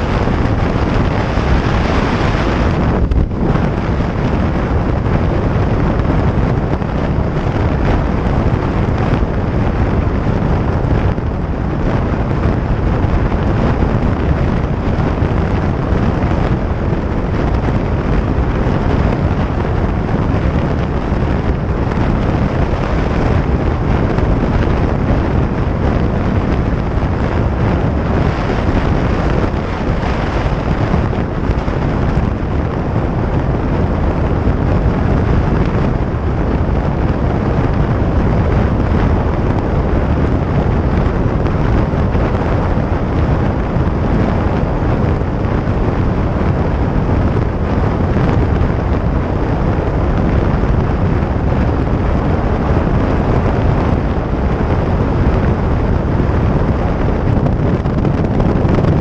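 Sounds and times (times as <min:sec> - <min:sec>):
motorcycle engine and road noise: 0:00.0 - 0:59.0
wind rushing over microphone: 0:00.0 - 0:59.0.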